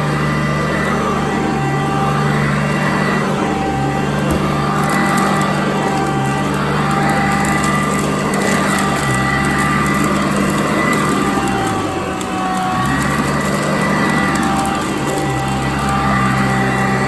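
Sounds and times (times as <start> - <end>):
vacuum cleaner running on carpet: 0.0 - 17.0.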